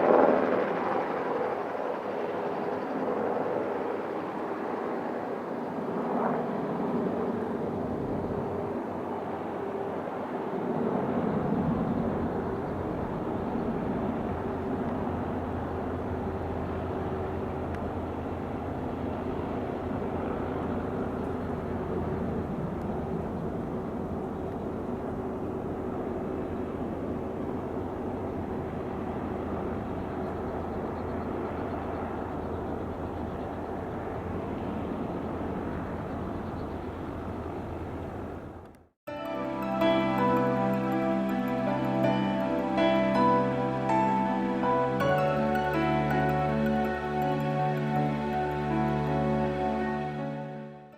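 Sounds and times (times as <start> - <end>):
helicopter engines and rotor: 0.0 - 50.8.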